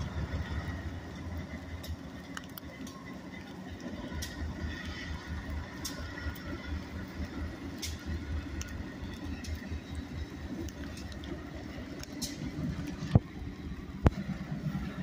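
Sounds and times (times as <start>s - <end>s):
diesel locomotive passing: 0.0s - 15.0s
freight cars rumbling: 0.0s - 15.0s
sharp clicks of train wheels: 0.0s - 15.0s.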